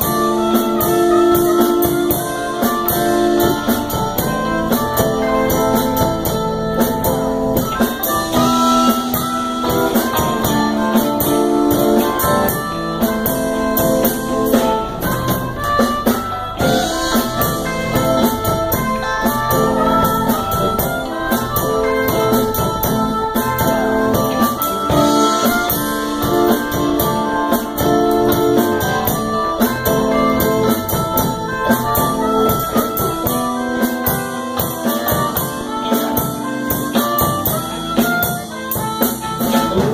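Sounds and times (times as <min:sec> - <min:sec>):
blues rock band playing: 0:00.0 - 0:39.9
harmonica lead: 0:00.0 - 0:39.9.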